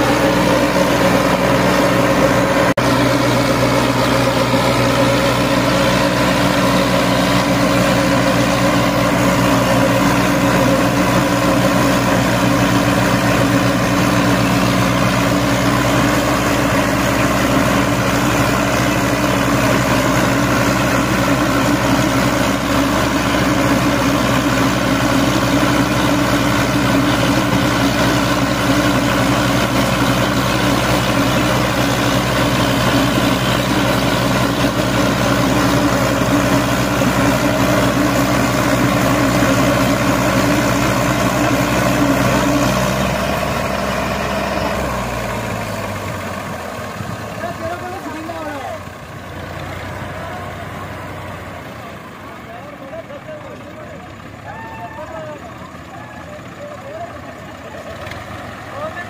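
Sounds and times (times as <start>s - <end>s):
tractor diesel engines under load: 0.0s - 59.0s.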